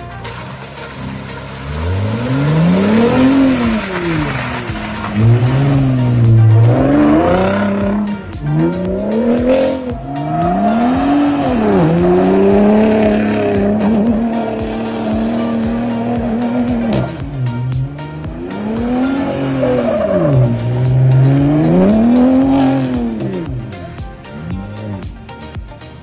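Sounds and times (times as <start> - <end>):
truck engine revving: 0.0 - 25.6
background music with beat: 0.0 - 26.0.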